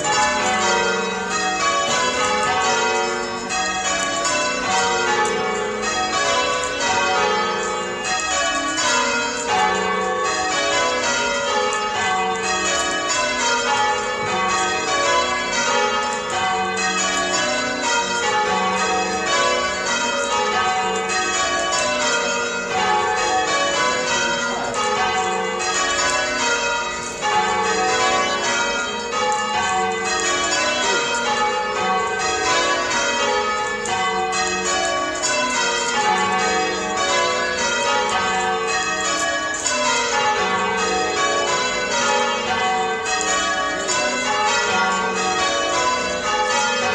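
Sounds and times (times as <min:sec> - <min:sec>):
church bells change ringing: 0:00.0 - 0:46.9.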